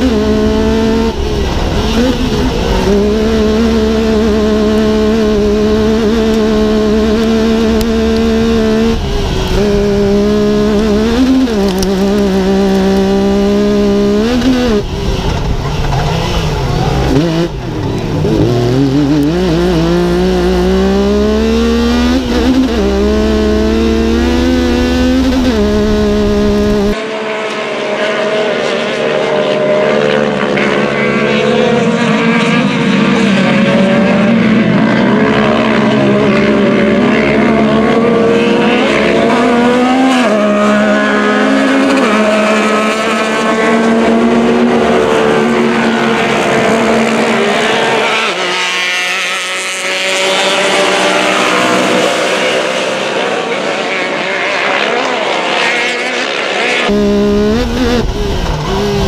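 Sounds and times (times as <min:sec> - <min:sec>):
distant race engines: 0:00.0 - 0:59.0
race car engine at high revs: 0:00.0 - 0:59.0.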